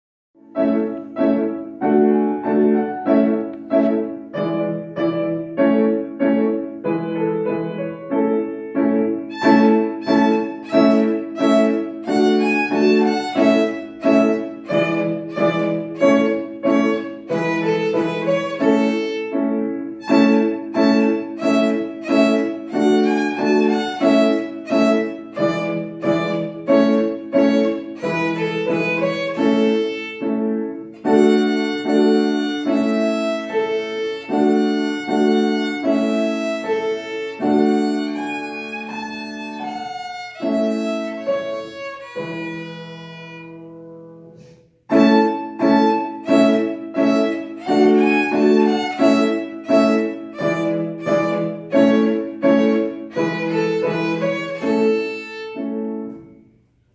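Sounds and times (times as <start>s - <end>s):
solo violin melody: 0.4s - 56.5s
piano accompaniment: 0.4s - 56.9s.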